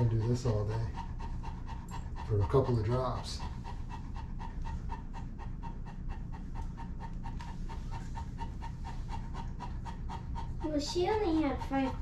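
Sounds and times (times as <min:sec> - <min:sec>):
dog panting fast: 0:00.0 - 0:12.0.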